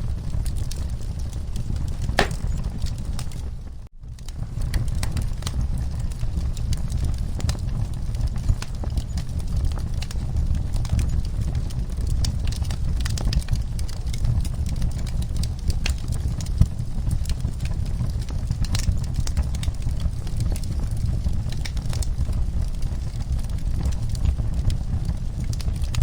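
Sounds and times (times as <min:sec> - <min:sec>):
wood fire crackling: 0:00.2 - 0:03.5, 0:04.2 - 0:26.0.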